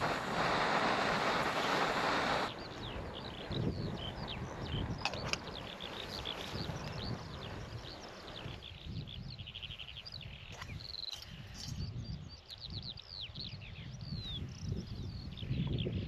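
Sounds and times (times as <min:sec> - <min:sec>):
songbirds chirping and trilling: 0:02.4 - 0:16.0.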